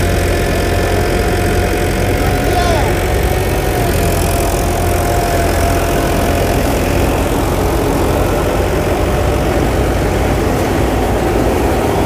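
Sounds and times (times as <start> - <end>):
diesel tractor engine: 0.0 - 12.0
thresher running: 0.0 - 12.0.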